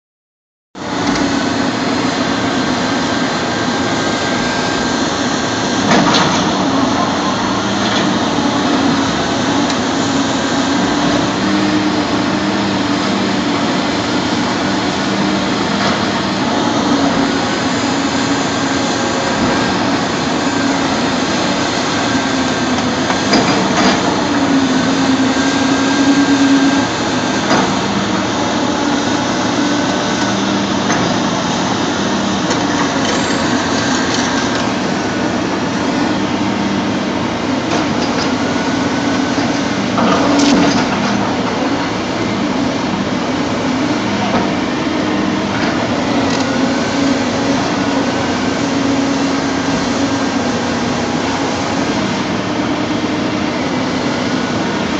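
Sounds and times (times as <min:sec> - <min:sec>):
excavator diesel engine running: 0:00.8 - 0:54.9.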